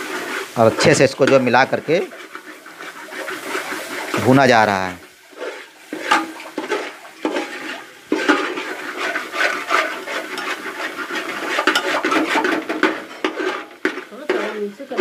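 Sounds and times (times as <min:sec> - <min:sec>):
paste frying in oil: 0:00.0 - 0:15.0
utensil scraping metal pot: 0:00.0 - 0:15.0.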